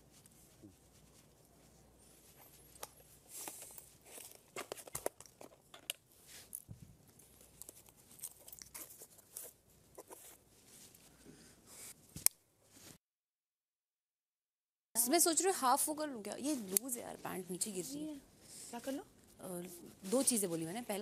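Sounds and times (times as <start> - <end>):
clothes and bags rustling: 0.0 - 13.0, 15.1 - 21.0.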